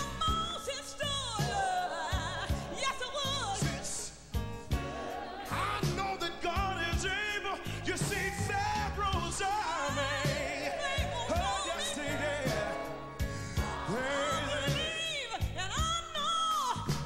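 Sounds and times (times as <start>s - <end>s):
band accompaniment: 0.0s - 17.0s
gospel singing with vibrato: 0.0s - 17.0s
steady drum beat: 0.0s - 17.0s.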